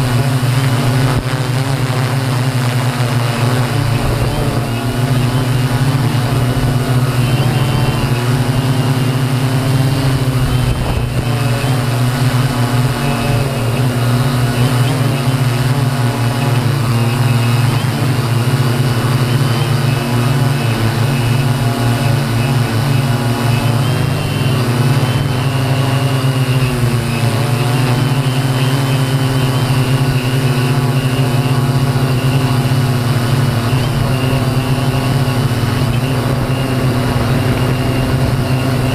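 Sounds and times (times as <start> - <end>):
drone motors and propellers: 0.0 - 38.9.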